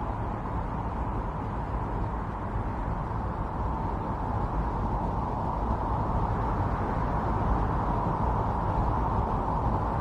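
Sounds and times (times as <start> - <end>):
strong snowstorm wind: 0.0 - 10.0.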